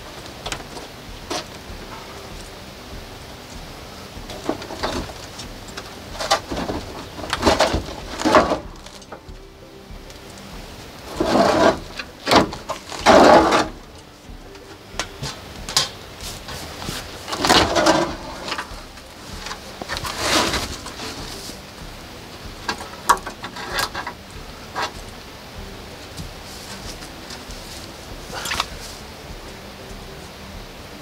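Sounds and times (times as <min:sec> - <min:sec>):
boards scraping and creaking: 0:00.0 - 0:31.0.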